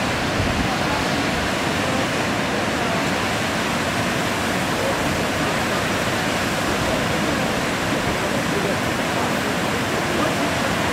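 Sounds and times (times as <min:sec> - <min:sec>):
waterfall roaring: 0:00.0 - 0:10.9.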